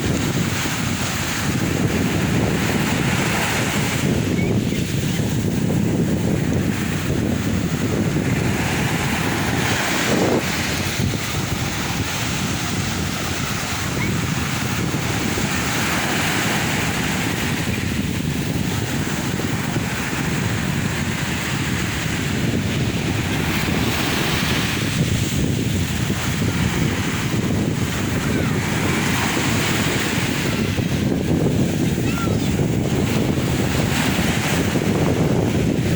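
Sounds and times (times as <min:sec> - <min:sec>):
sea waves breaking on shore: 0:00.0 - 0:35.9
wind buffeting microphone: 0:00.0 - 0:35.9.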